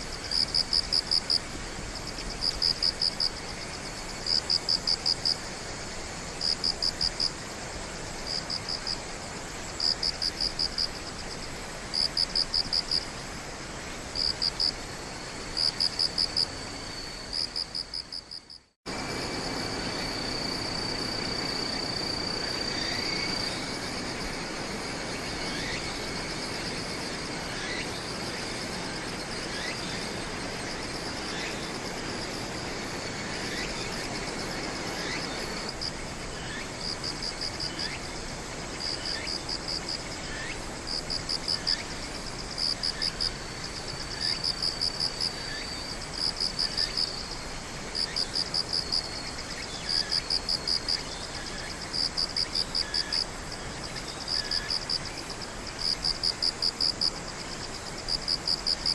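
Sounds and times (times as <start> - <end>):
high insect trill: 0.0 - 58.9
insects chirping in pulsed bursts: 0.0 - 58.9.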